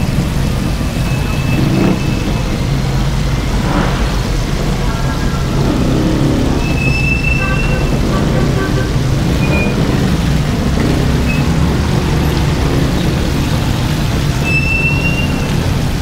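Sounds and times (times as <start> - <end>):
low rumble of vehicle engines: 0.0 - 16.0.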